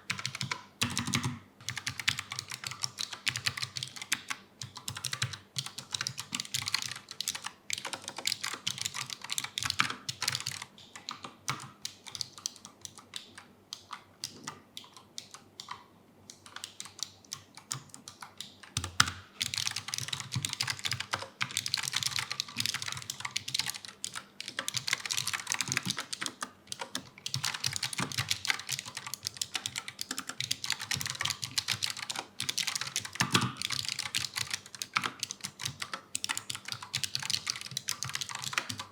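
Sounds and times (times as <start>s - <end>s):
mechanical keyboard typing: 0.1s - 38.9s.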